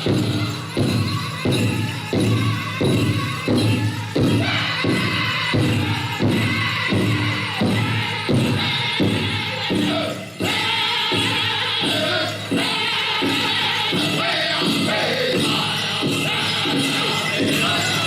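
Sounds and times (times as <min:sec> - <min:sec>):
men singing together: 0:00.0 - 0:18.0.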